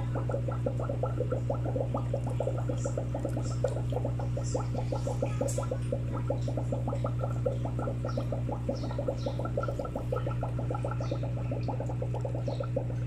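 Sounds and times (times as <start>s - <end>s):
air bubbles gurgling in water: 0.0s - 13.0s
air pump humming: 0.0s - 13.0s.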